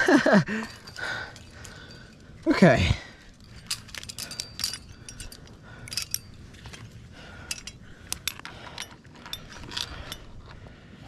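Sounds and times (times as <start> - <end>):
metal climbing gear clinking: 0.0 - 11.0.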